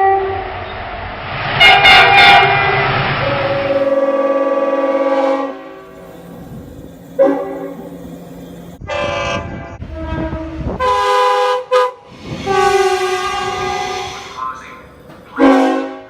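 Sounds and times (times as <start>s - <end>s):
train horn blasts: 0.0s - 0.6s, 1.6s - 14.6s, 15.3s - 16.0s
low rumble of train: 0.0s - 16.0s.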